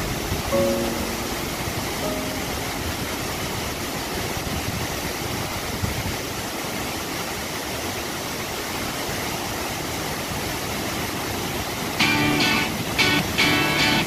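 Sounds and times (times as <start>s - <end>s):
waterfall rushing onto rocks: 0.0s - 14.0s.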